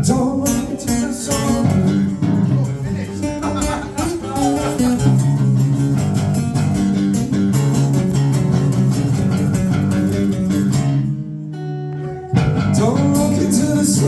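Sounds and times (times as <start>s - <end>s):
bass guitar: 0.0s - 14.0s
strummed guitar: 0.0s - 14.0s.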